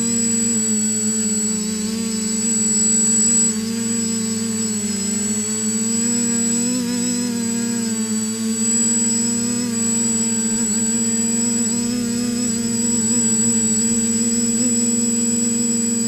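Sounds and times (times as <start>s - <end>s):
constant high whine: 0.0s - 16.0s
quadcopter motors humming: 0.0s - 16.0s.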